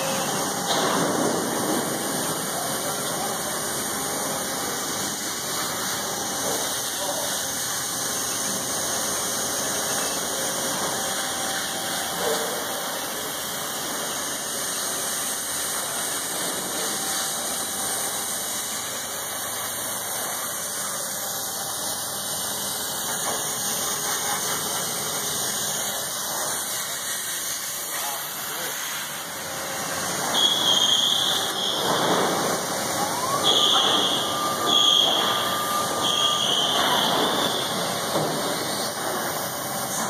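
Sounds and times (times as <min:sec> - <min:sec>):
plasma torch hissing: 0:00.0 - 0:40.0.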